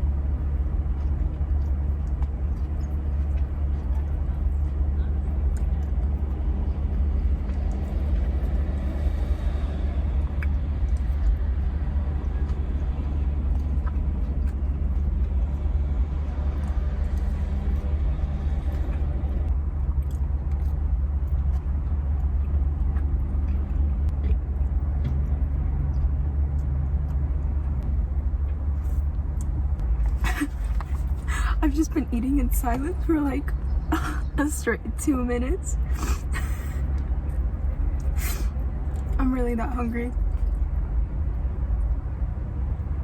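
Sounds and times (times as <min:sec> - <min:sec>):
steady low rumble: 0:00.0 - 0:43.0.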